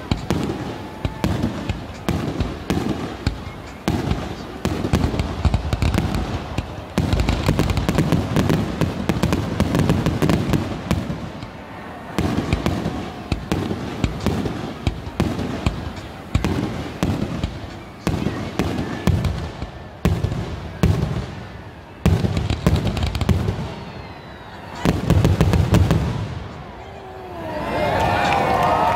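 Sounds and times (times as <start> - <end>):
fireworks crackling: 0.0 - 28.9.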